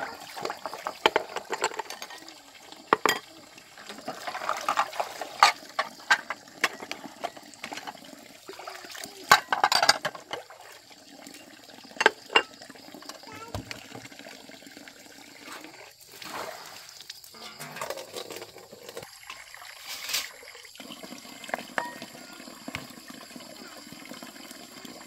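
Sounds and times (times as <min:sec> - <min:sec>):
water splashing and pouring: 0:00.0 - 0:25.0.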